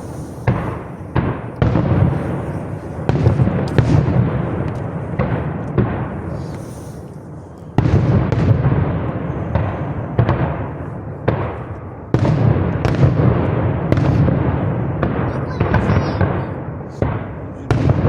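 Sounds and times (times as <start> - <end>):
fireworks bangs with rolling echo: 0.0 - 18.0.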